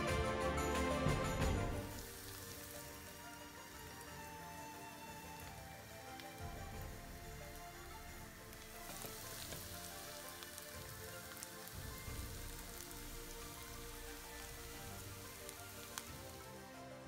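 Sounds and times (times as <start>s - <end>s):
soft background music: 0.0s - 17.0s
food sizzling in oil: 1.7s - 17.0s
curry bubbling: 1.9s - 16.6s.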